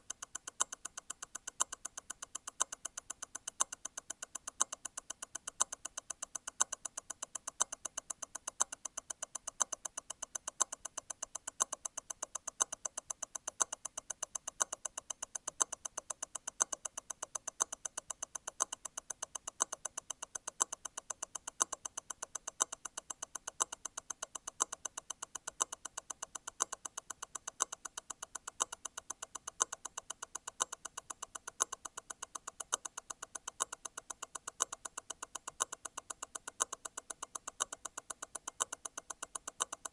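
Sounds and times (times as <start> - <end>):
watch movement ticking: 0.0 - 39.9.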